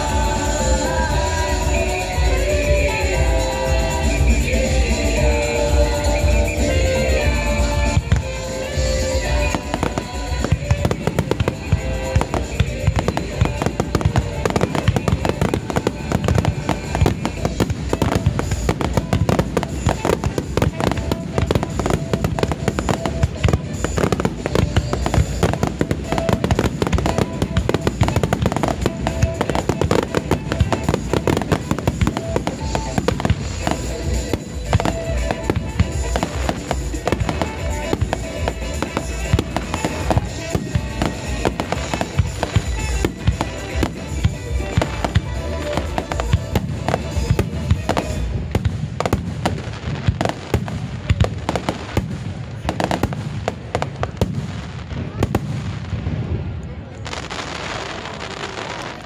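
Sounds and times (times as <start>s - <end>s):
fireworks bangs and crackle: 0.0s - 59.0s
music playing: 0.0s - 59.0s.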